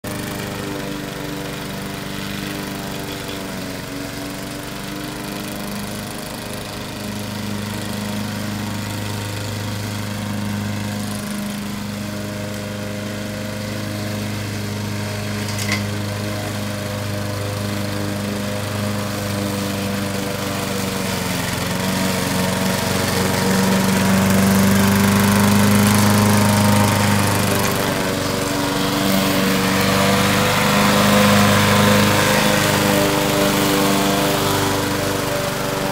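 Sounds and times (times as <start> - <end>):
robot lawn mower engine: 0.0 - 35.9.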